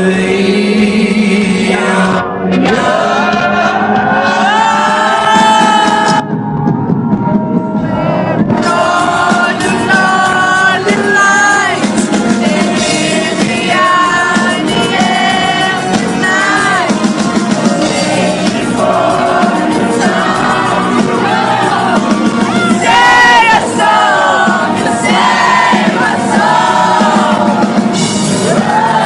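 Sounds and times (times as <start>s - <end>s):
person singing: 0.0s - 6.3s, 7.8s - 29.0s
rock band playing live: 0.0s - 29.0s.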